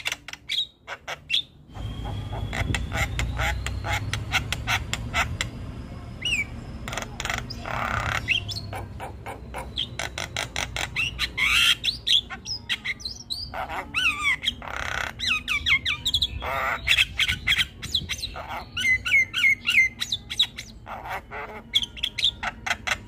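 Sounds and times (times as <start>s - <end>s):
myna bird calling: 0.0s - 23.0s.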